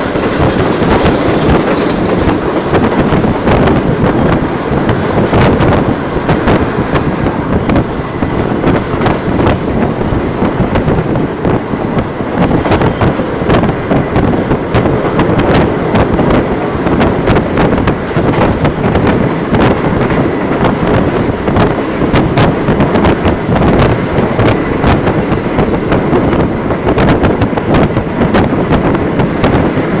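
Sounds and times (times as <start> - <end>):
train passing at speed: 0.0 - 30.0
wheels clacking over rail joints: 0.0 - 30.0.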